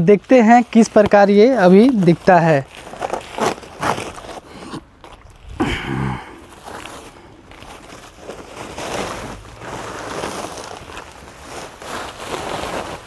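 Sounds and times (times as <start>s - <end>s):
sacking cover rustling: 0.0s - 13.0s.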